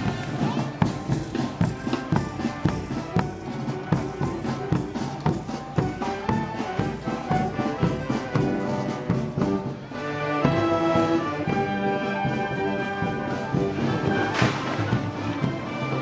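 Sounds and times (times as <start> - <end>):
brass band playing march: 0.0 - 16.0
steady drum beat: 0.0 - 16.0.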